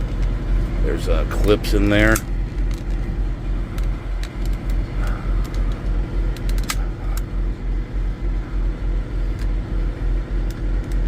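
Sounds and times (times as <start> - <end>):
engine rumble idling: 0.0 - 11.0.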